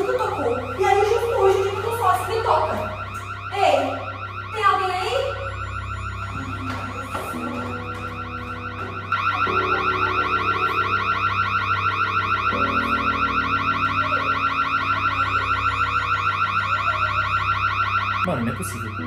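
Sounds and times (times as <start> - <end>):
electronic door alarm warbling: 0.0 - 19.0.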